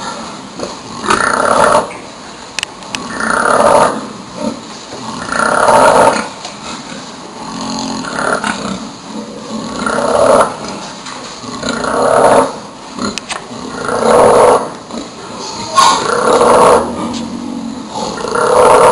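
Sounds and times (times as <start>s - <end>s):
boar snoring: 0.6s - 1.9s, 3.0s - 10.8s, 11.4s - 18.9s.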